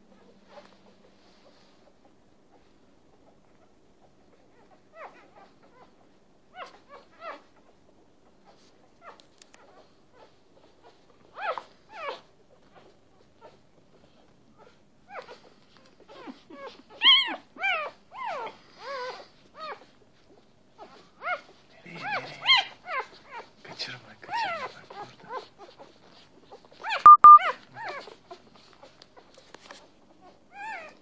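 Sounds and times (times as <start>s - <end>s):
puppies squeaking and whimpering: 0.2s - 31.0s.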